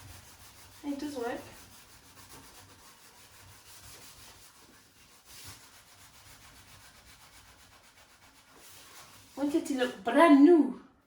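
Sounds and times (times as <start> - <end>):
steel wool scrubbing metal sink: 0.0 - 10.1.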